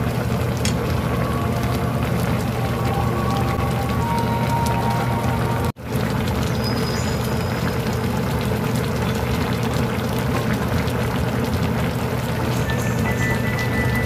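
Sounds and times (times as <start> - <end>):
stew bubbling and popping: 0.0 - 14.0.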